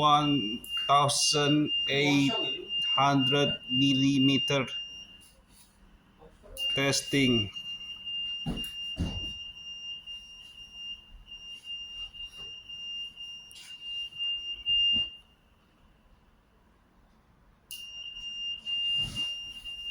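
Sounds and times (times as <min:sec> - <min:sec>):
security gate alarm tone: 0:00.0 - 0:05.5, 0:06.5 - 0:15.5, 0:17.7 - 0:19.9.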